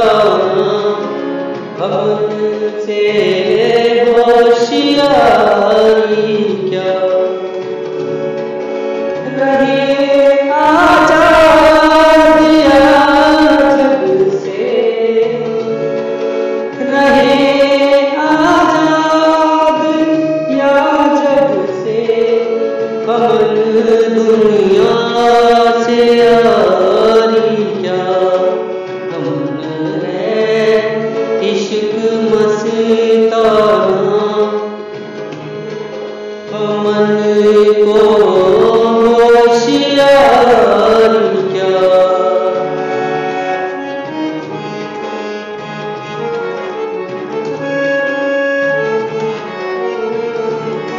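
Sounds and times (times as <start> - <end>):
devotional chant singing: 0.0 - 7.6, 9.2 - 44.7.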